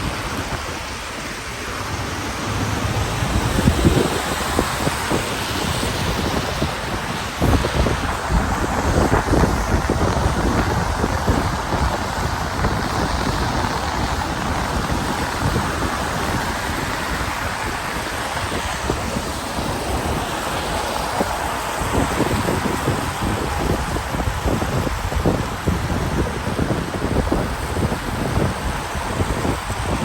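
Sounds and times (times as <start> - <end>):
rainy street noise hiss: 0.0 - 30.0
wind buffeting microphone: 0.0 - 30.0.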